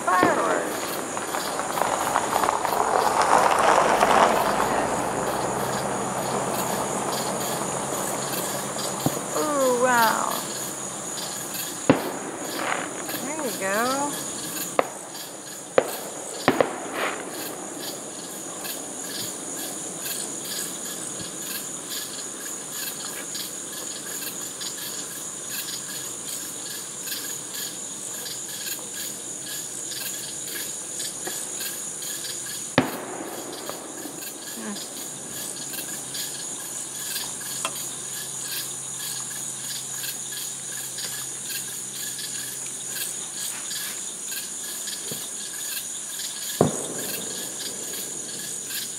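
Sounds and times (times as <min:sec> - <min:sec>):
crickets chirping: 0:00.0 - 0:48.9
distant fireworks bangs: 0:00.0 - 0:48.9.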